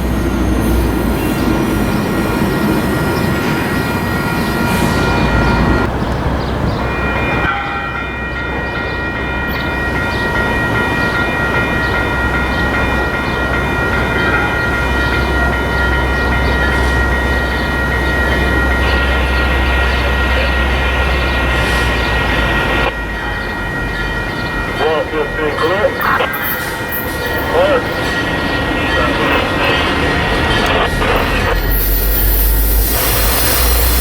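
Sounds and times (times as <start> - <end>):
diesel train engine rumble: 0.0 - 34.0.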